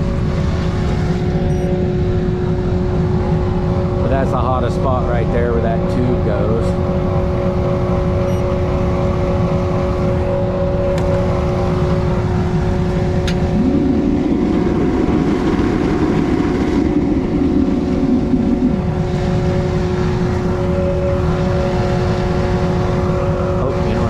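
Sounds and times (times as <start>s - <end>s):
furnace burner and blower roaring: 0.0s - 24.0s.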